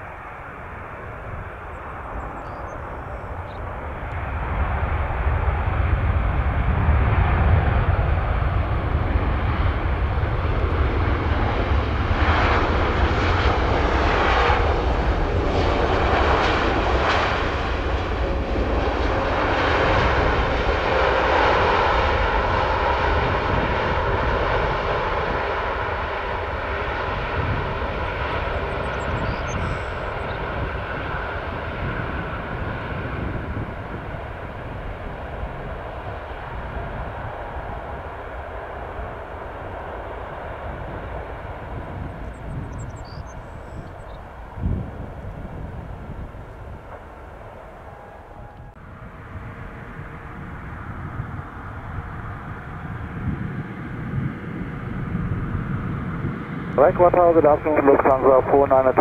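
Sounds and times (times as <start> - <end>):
airliner jet engines: 0.0 - 59.0.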